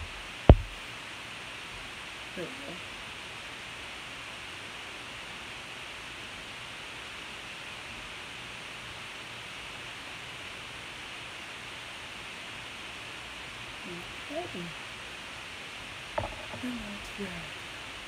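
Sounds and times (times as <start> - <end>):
steady recording hiss: 0.0 - 18.0.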